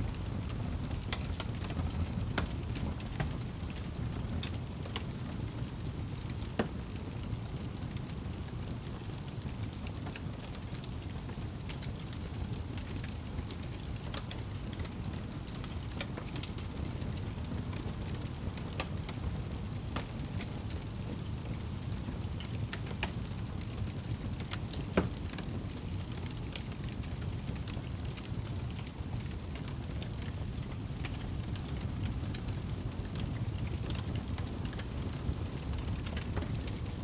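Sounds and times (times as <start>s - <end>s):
fire crackling: 0.0s - 37.0s
rain: 0.0s - 37.0s.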